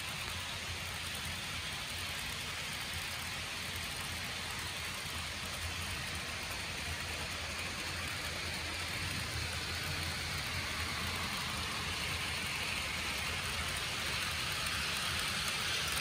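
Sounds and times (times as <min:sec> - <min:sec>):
model train wheels hissing on rails: 0:00.0 - 0:16.0.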